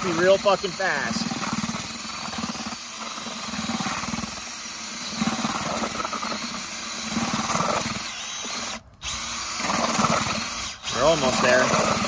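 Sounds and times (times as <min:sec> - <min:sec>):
drill mixing wet concrete: 0:00.0 - 0:12.0.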